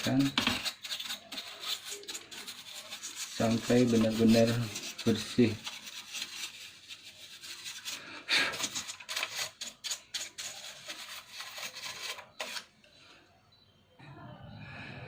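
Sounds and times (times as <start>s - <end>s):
rubbing on plastic casing: 0.0s - 12.7s.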